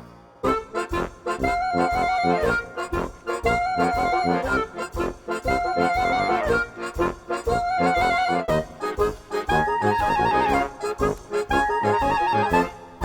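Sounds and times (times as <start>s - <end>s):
bouncy accordion-like tune with beat: 0.0s - 13.0s.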